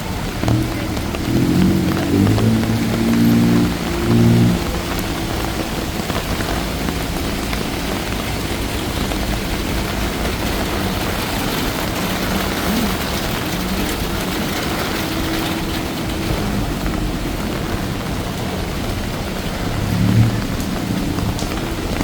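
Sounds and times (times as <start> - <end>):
rain on wet street: 0.0 - 22.0
road traffic: 0.0 - 22.0.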